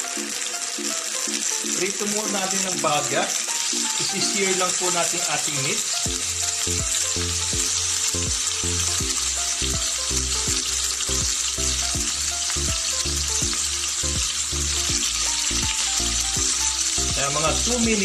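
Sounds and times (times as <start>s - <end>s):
background music: 0.0s - 18.0s
meat sizzling in a frying pan: 0.0s - 18.0s.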